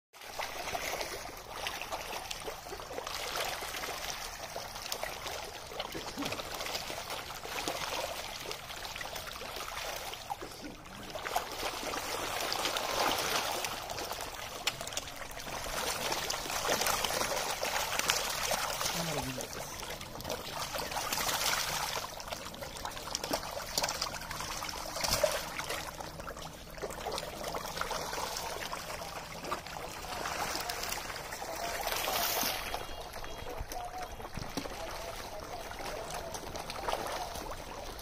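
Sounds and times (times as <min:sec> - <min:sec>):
fish splashing in water: 0:00.2 - 0:38.0.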